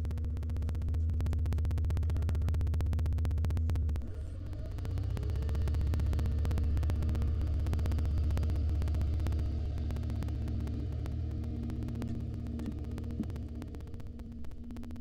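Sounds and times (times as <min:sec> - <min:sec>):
low electrical hum with buzz: 0:00.0 - 0:15.0.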